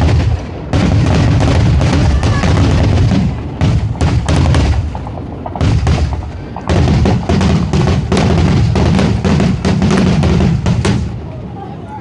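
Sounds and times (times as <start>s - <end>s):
fireworks bangs and cracks: 0.0s - 11.6s.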